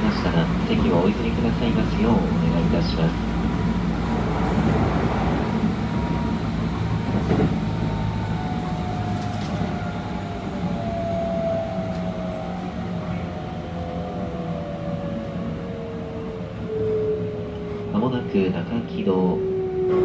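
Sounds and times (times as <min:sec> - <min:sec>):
wheels rumbling on track: 0:00.0 - 0:20.0.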